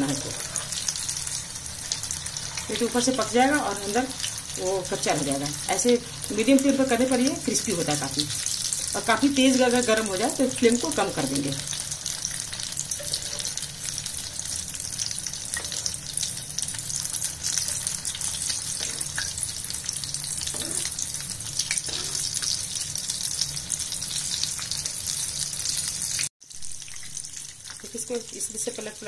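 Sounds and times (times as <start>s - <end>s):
food deep-frying in oil: 0.0s - 29.0s.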